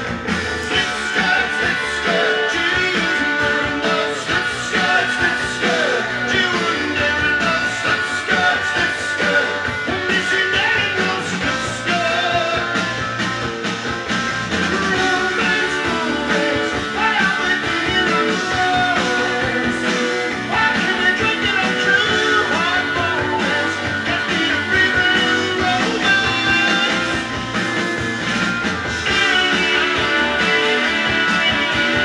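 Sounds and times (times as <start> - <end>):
rock music with singing: 0.0 - 32.0.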